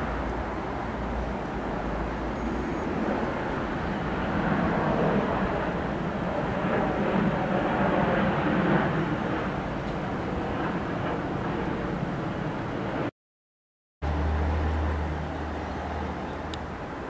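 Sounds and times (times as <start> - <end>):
jet airliner roar passing low: 0.0 - 13.1, 14.0 - 17.0.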